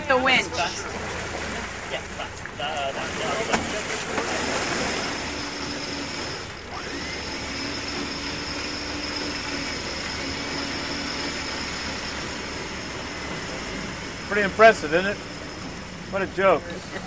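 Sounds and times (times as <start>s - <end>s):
boat winch running under load: 0.0s - 17.0s.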